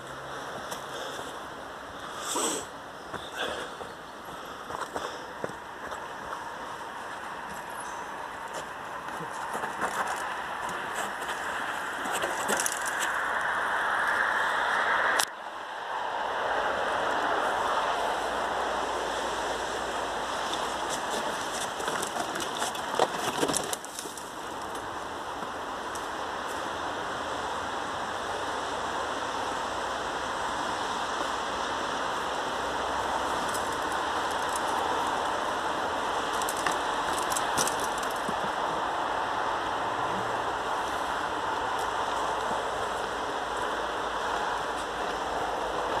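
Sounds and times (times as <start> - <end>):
steady rushing outdoor noise: 0.0 - 46.0.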